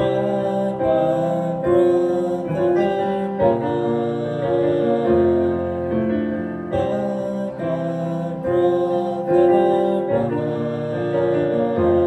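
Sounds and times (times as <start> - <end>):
keyboard chords: 0.0 - 12.0
person singing: 0.0 - 12.0.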